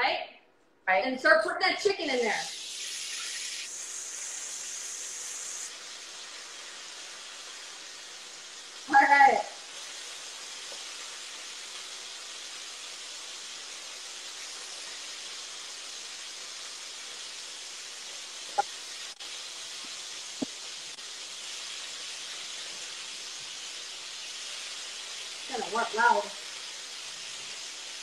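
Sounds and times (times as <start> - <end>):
chicken sizzling in a frying pan: 2.0 - 28.0.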